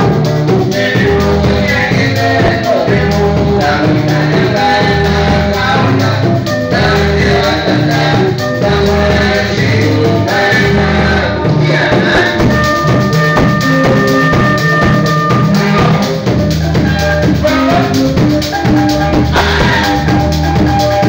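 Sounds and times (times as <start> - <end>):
bass guitar: 0.0 - 21.0
electric guitar: 0.0 - 21.0
steady drum beat: 0.0 - 21.0.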